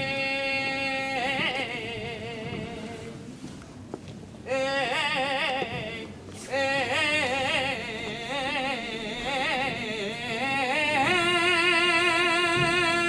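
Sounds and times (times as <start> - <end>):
person singing unaccompanied: 0.0 - 3.3, 4.4 - 13.0.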